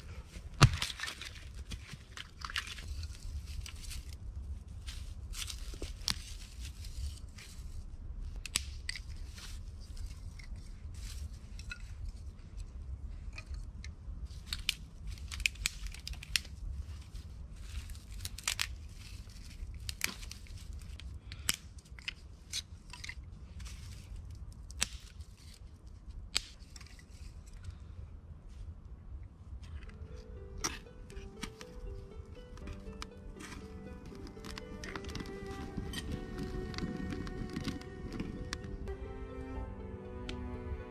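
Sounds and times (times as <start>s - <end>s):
dry grass and twigs crackling: 0.0s - 27.9s, 29.5s - 39.1s
low steady rumble: 0.0s - 40.9s.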